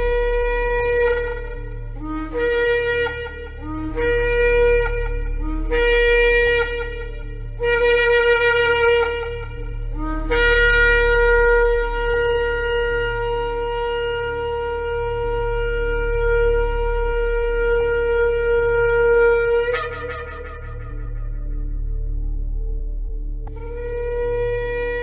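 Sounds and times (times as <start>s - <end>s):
shofar blasts: 0.0s - 22.4s, 23.5s - 25.0s.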